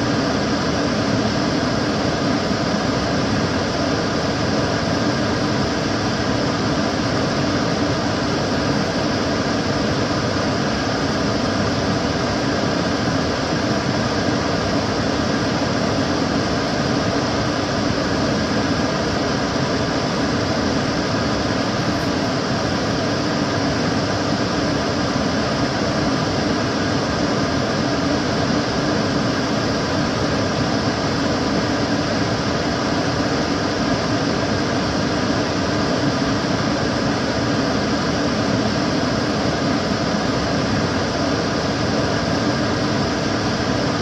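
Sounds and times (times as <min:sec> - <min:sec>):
extractor fan rushing air: 0:00.0 - 0:44.0
low fan hum: 0:00.0 - 0:44.0.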